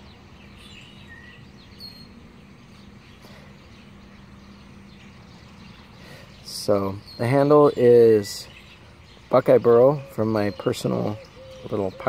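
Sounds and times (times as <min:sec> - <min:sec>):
bird chirp: 0:00.0 - 0:12.0.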